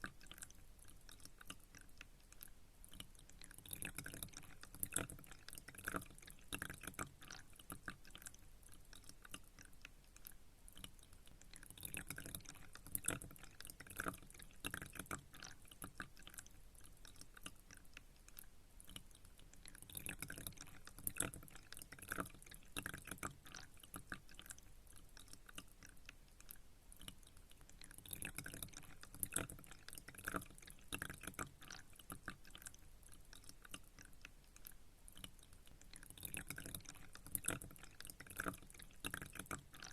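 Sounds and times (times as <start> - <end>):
water dripping and trickling: 0.0 - 39.9.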